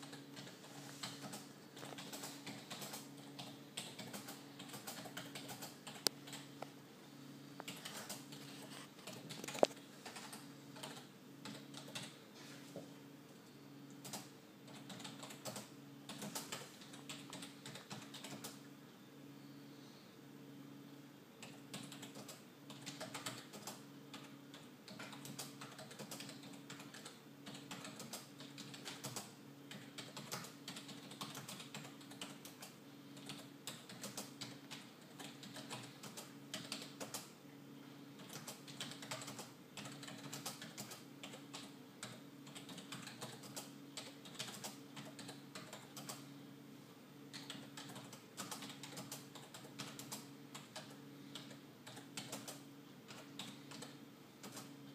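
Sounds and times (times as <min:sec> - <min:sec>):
typing on keyboard: 0:00.0 - 0:06.6, 0:07.6 - 0:12.2, 0:14.0 - 0:18.6, 0:21.4 - 0:37.3, 0:38.2 - 0:46.2, 0:47.3 - 0:54.7.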